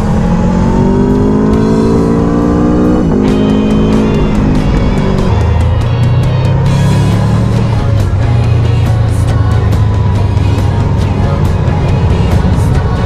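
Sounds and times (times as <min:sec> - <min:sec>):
motorcycle engine accelerating: 0:00.0 - 0:13.0
music with guitar and drums: 0:00.0 - 0:13.0.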